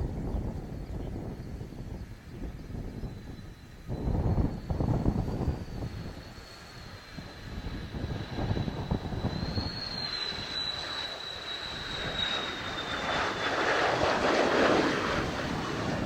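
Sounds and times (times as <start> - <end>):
wind buffeting microphone: 0.0 - 10.8, 11.6 - 16.0
jet engine whine: 0.0 - 16.0
rushing jet noise: 3.0 - 16.0.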